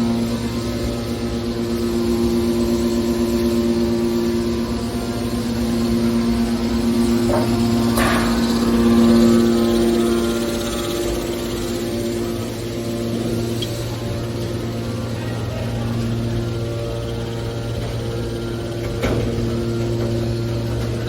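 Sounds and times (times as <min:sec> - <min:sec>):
hydraulic power unit hum: 0:00.0 - 0:21.0.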